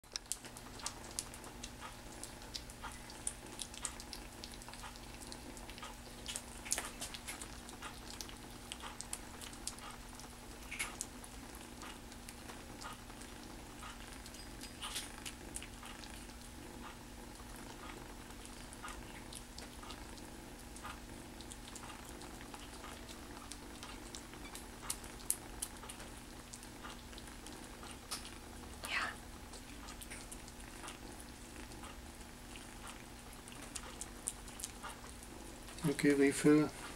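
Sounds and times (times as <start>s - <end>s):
kitten licking and lapping: 0.1s - 36.9s
steady low hum: 0.1s - 36.9s.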